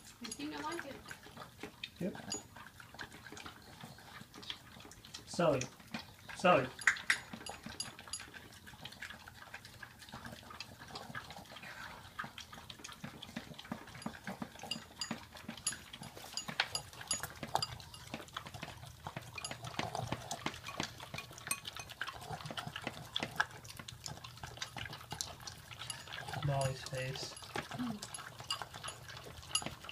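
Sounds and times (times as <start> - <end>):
dogs licking and lapping: 0.0 - 29.9.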